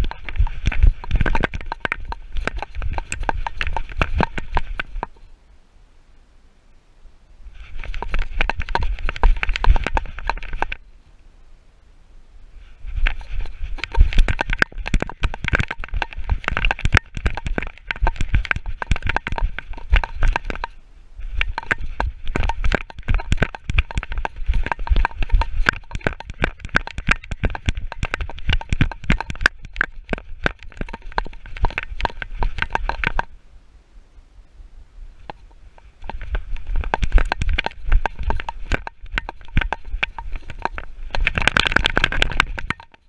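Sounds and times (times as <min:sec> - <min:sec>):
camera mount rattling and knocking: 0:00.0 - 0:05.2, 0:07.8 - 0:10.8, 0:13.0 - 0:20.7, 0:21.4 - 0:33.3, 0:35.3 - 0:43.0.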